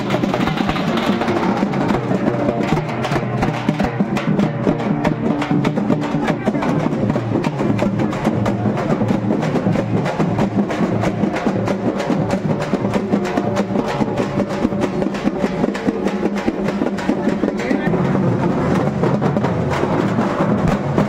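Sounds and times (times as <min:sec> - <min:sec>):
drums beaten in fast rhythm: 0:00.0 - 0:21.0.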